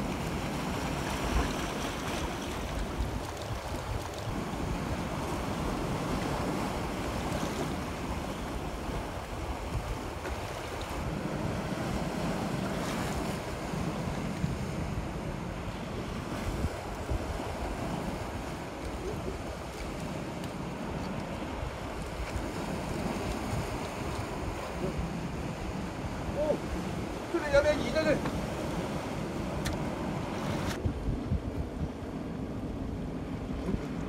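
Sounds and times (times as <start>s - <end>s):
waves washing on rocky shore: 0.0s - 30.8s
wind buffeting microphone: 0.0s - 34.0s.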